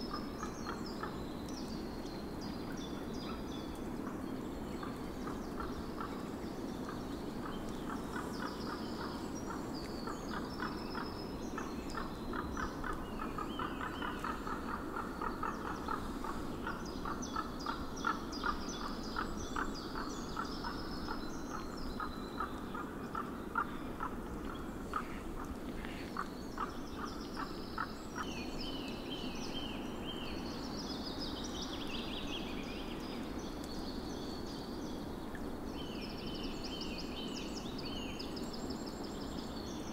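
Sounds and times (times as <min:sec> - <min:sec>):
rapid pulsed bird calls: 0:00.0 - 0:39.9.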